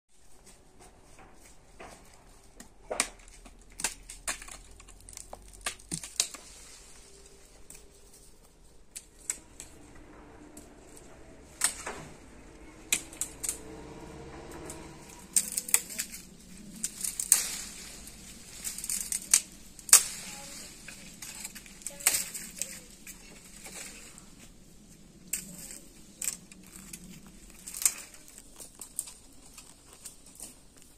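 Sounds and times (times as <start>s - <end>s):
leaves rustling: 0.1s - 30.9s
branches cracking and snapping: 1.8s - 30.9s.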